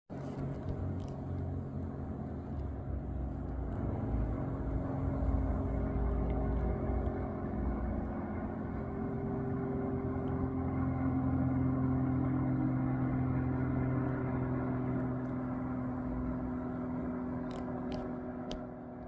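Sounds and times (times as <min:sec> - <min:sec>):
propeller plane flying over: 0:00.1 - 0:19.0.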